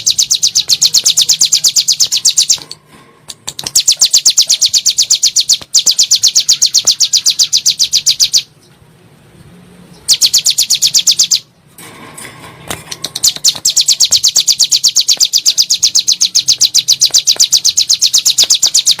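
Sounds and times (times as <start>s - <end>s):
bird singing rapid high notes: 0.0s - 2.8s, 3.6s - 8.7s, 9.9s - 11.5s, 13.1s - 19.0s.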